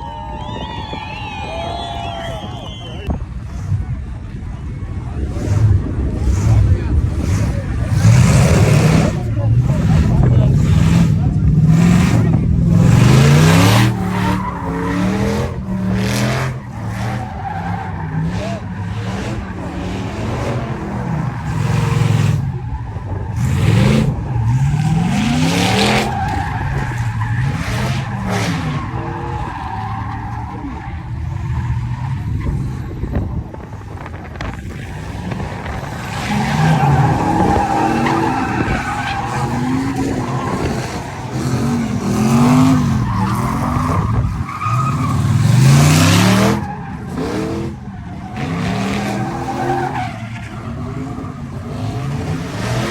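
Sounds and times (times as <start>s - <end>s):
tyres squealing on pavement: 0.0s - 3.2s, 4.6s - 52.9s
engines revving hard: 1.3s - 52.9s.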